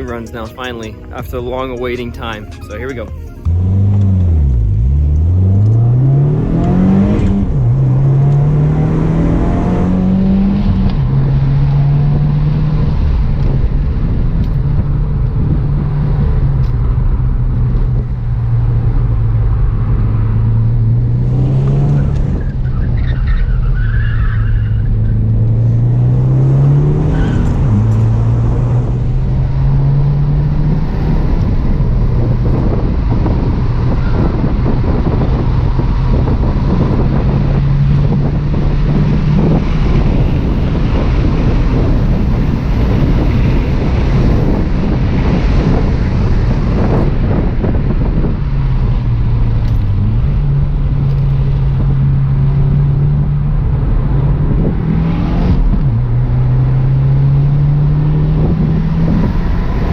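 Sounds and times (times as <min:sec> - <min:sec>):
car engine accelerating and shifting: 0:00.0 - 0:59.9.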